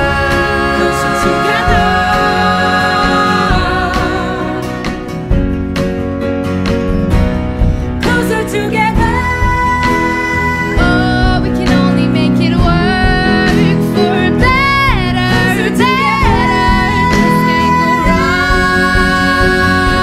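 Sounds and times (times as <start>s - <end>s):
person singing: 0.0s - 5.2s, 8.0s - 20.0s
guitar accompaniment: 0.0s - 20.0s.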